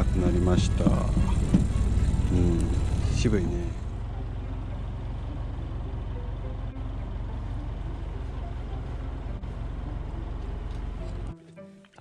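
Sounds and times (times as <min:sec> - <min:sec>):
boat engine droning: 0:00.0 - 0:11.4.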